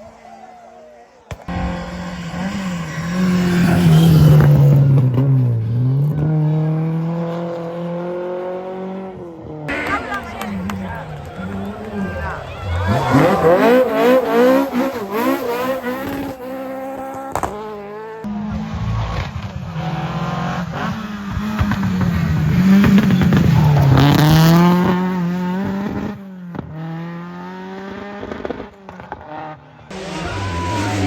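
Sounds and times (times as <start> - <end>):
rally car engines revving: 0.0 - 31.0.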